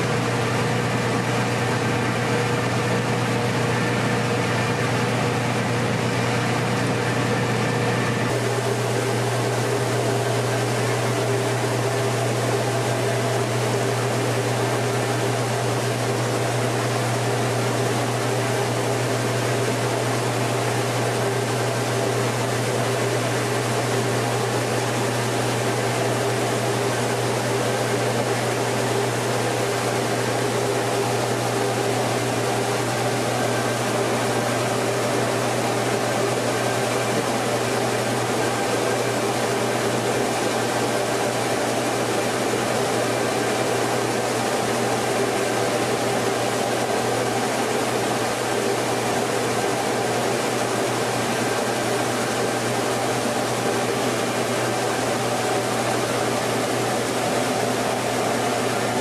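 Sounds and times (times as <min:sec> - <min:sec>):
rice mill droning: 0:00.0 - 0:59.0.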